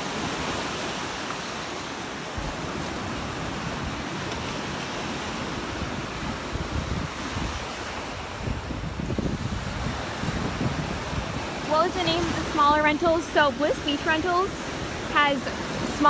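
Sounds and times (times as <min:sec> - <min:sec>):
surf washing on beach: 0:00.0 - 0:16.0
wind rumbling on microphone: 0:00.0 - 0:16.0.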